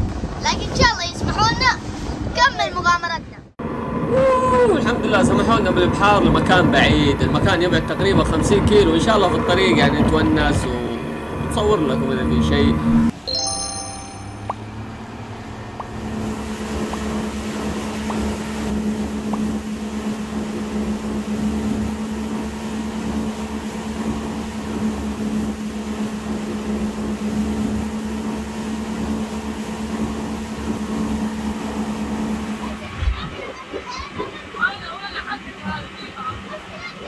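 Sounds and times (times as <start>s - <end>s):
rush of wind and water: 0.0s - 12.9s, 15.4s - 37.0s
outboard motor droning: 3.6s - 13.1s, 14.5s - 37.0s.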